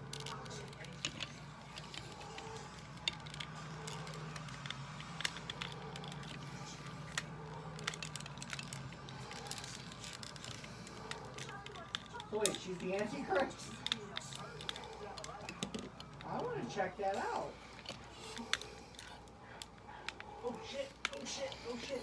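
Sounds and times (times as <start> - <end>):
plastic toy parts clicking: 0.0 - 16.5, 17.1 - 22.0.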